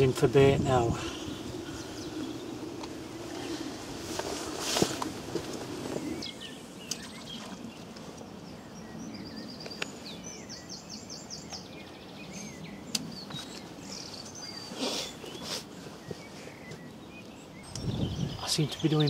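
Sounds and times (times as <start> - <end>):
outdoor background noise: 0.0 - 19.0
songbirds chirping and trilling: 0.0 - 19.0.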